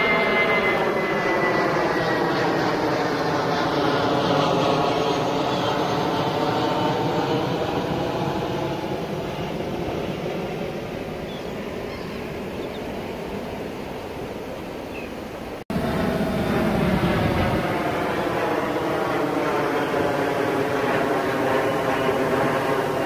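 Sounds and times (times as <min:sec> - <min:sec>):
jet aircraft passing over: 0:00.0 - 0:23.0.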